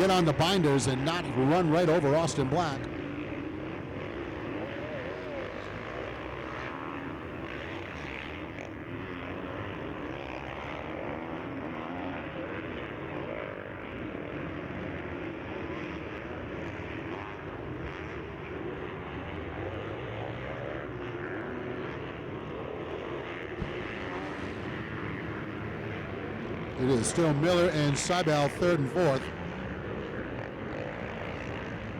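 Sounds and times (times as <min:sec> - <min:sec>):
motocross bike engines racing: 0:00.0 - 0:31.9.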